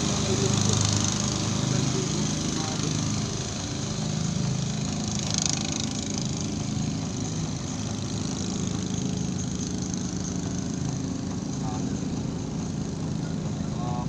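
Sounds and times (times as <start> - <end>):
small engine droning: 0.0 - 14.0.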